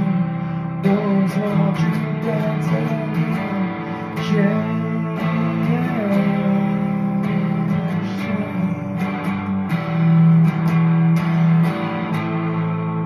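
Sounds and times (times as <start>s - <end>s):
guitar rock music: 0.0s - 13.0s.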